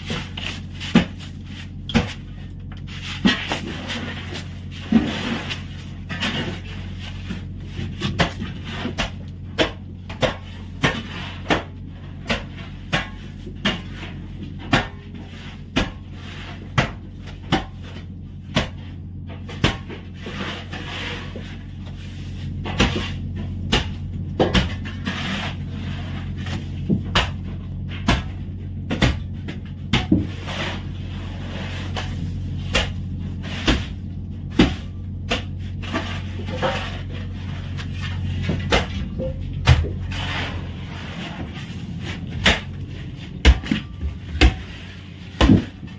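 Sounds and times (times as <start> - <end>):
low machine drone: 0.0 - 45.9.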